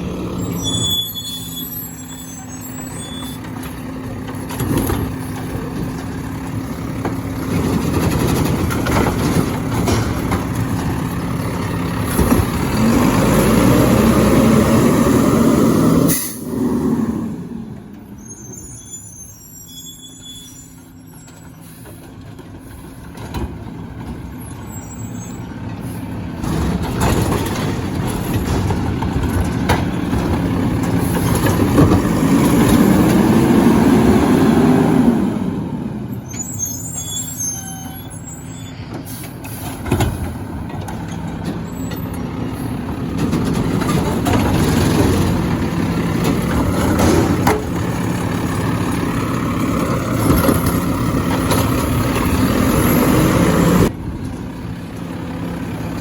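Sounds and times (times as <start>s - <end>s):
garbage truck engine running: 0.0s - 18.6s, 20.6s - 56.0s.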